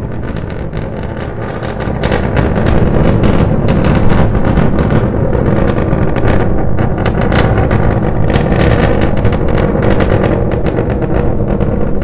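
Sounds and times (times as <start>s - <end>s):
rocket engines rumbling and crackling: 0.0s - 12.0s.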